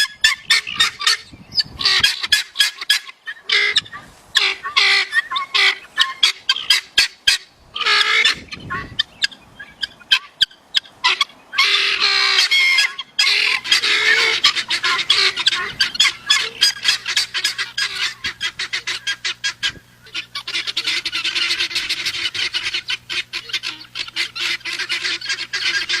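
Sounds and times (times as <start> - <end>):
guineafowl cackling: 0.0 - 26.0
steady low hum: 3.5 - 26.0.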